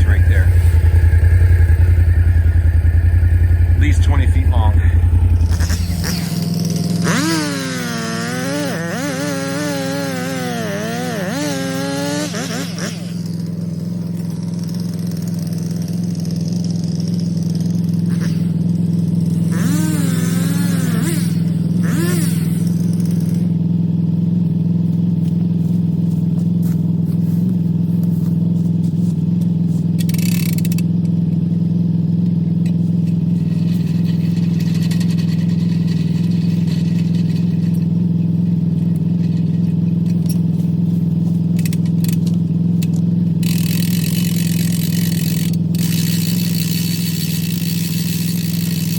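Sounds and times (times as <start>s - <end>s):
atv engine droning: 0.0s - 48.9s.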